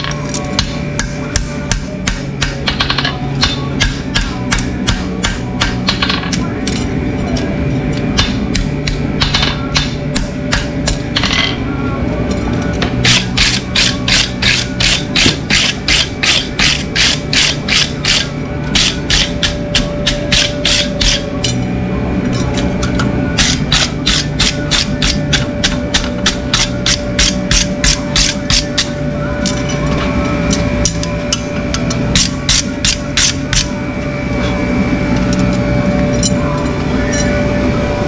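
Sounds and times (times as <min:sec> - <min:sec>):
faint radio music: 0:00.0 - 0:38.0.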